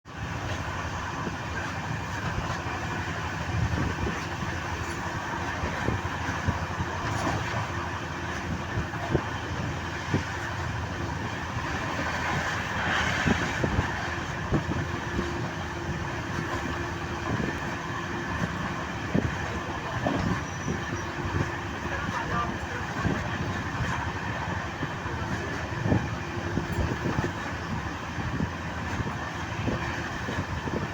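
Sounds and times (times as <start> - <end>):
train rumble: 0.0 - 30.9.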